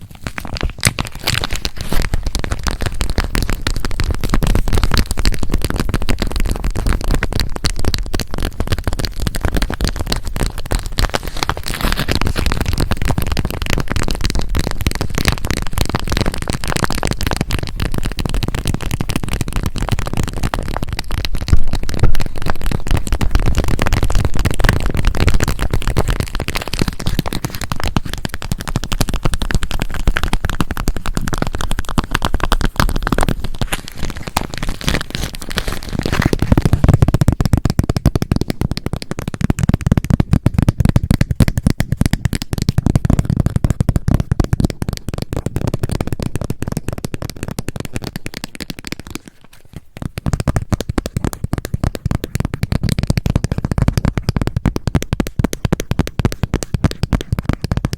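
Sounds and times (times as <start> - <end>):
plastic wrapper crinkling: 0.0 - 57.9.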